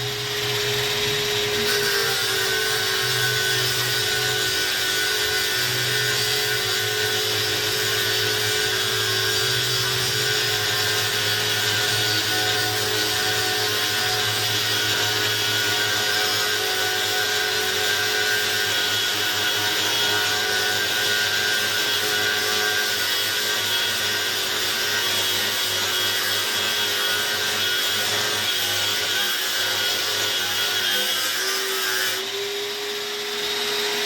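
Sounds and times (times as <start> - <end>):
angle grinder grinding: 0.0 - 34.0.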